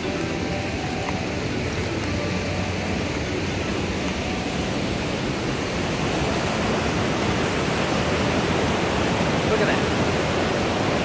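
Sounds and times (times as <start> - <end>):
stream rushing over boulders: 0.0 - 11.0.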